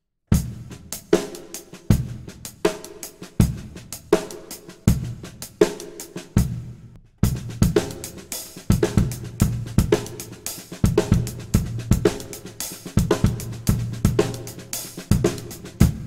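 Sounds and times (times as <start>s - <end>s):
drum kit playing a groove: 0.3s - 16.0s.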